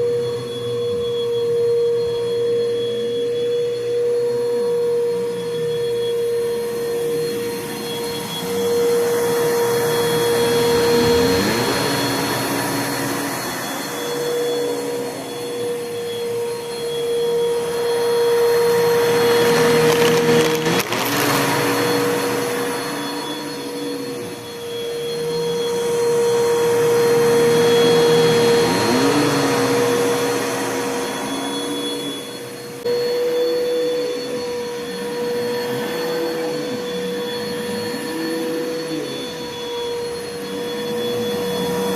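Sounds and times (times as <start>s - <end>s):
vacuum cleaner running on carpet: 0.0s - 41.9s.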